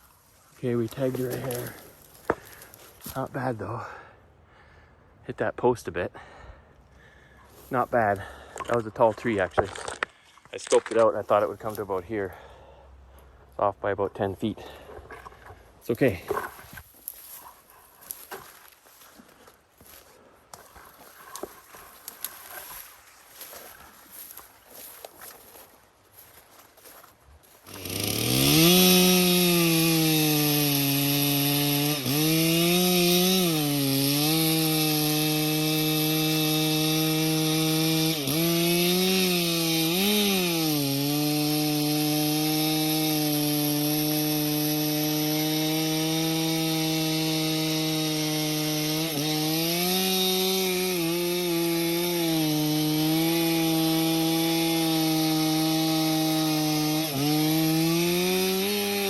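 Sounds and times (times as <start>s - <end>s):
chainsaw cutting wood: 0.0s - 4.1s, 7.5s - 12.6s, 14.2s - 25.6s, 27.4s - 59.0s.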